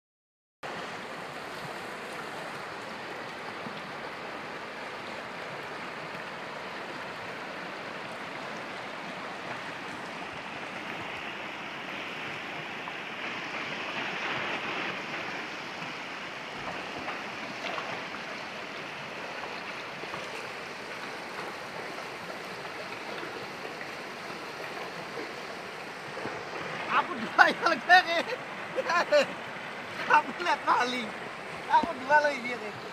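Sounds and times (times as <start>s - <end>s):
river rushing over stones: 0.7s - 32.9s.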